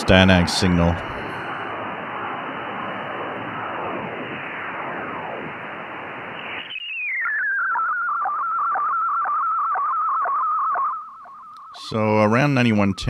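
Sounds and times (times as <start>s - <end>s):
radio static hiss with sweeps: 0.0s - 13.0s
radio whistle gliding down: 0.0s - 13.0s
steady wavering radio tone: 0.0s - 13.0s.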